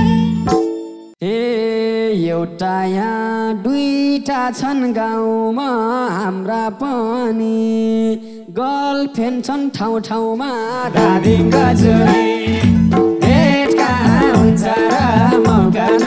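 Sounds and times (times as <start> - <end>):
man singing into a microphone: 1.2 - 16.0.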